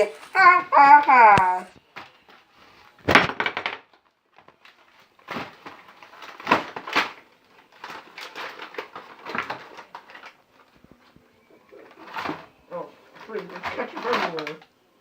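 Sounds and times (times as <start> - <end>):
objects clattering and rustling: 0.0 - 14.8.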